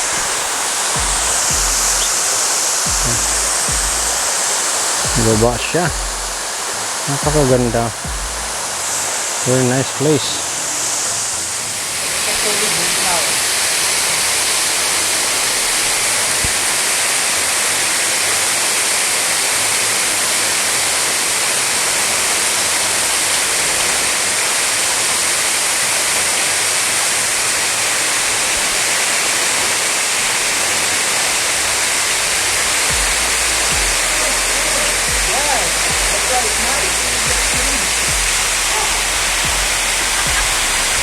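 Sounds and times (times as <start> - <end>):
waterfall pouring into pool: 0.0 - 41.0.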